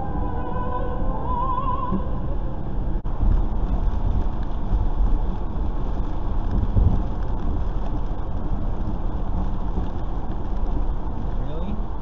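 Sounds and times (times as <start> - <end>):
car road noise on wet road: 0.0 - 12.0.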